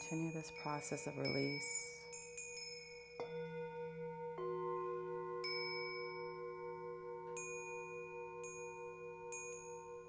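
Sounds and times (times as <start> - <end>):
singing bowls ringing: 0.0 - 10.0.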